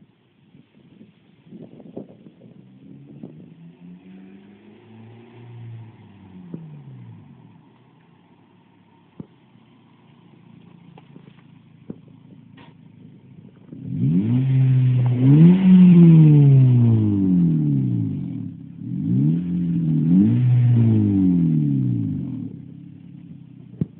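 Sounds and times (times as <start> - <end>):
car engine idling and revving: 0.8 - 23.9.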